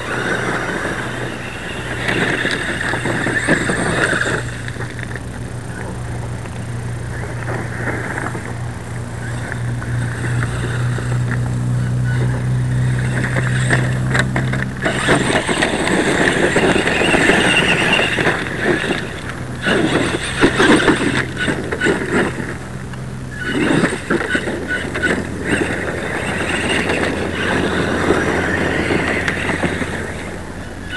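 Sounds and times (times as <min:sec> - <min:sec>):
steady low hum: 0:00.0 - 0:30.9
toy truck motors whining: 0:00.0 - 0:30.9.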